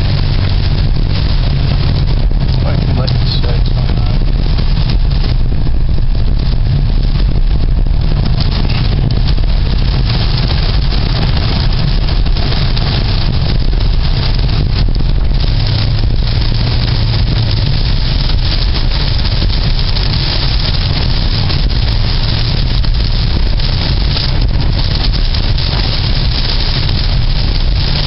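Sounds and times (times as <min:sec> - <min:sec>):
vehicle rumble: 0:00.0 - 0:28.0.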